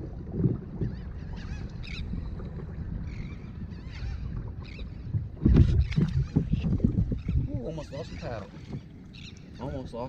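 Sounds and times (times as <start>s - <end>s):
water and wind rumble: 0.0s - 10.0s
birds calling: 0.8s - 2.3s, 3.0s - 10.0s.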